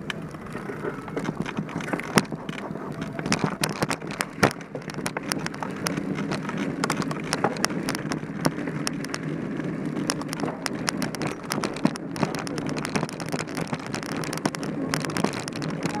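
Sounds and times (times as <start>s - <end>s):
bike rattling clicks and knocks: 0.0s - 16.0s
bike tyres on dirt trail: 0.0s - 16.0s.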